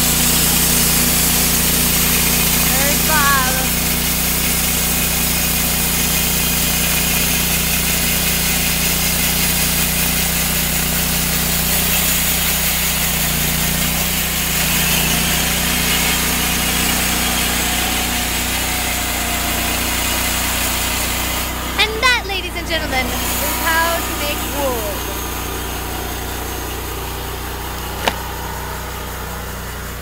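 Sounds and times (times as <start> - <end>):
band sawmill cutting log: 0.0 - 22.2, 22.8 - 30.0.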